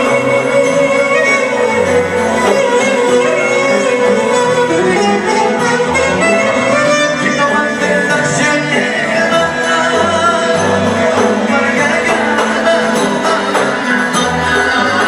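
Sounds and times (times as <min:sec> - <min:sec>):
bass: 0:00.0 - 0:15.0
keyboard chords: 0:00.0 - 0:15.0
violin melody: 0:00.0 - 0:15.0.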